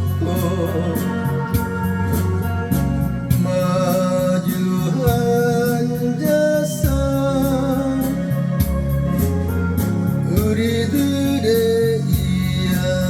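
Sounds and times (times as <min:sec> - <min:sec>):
instrumental ballad music: 0:00.0 - 0:13.0.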